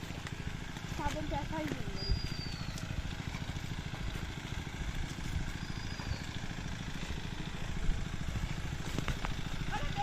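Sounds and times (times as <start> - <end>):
water pump engine running: 0.0 - 10.0.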